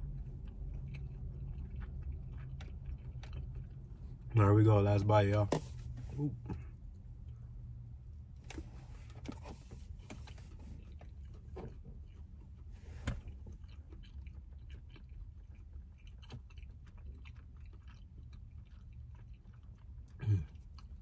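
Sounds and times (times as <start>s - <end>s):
chewing: 0.0s - 5.1s, 5.7s - 21.0s
steady low hum: 0.0s - 21.0s.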